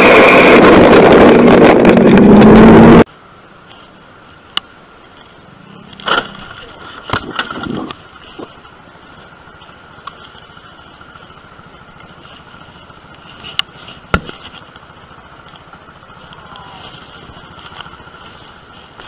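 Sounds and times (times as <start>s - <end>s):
scooter engine running: 0.0s - 3.1s, 5.2s - 19.0s.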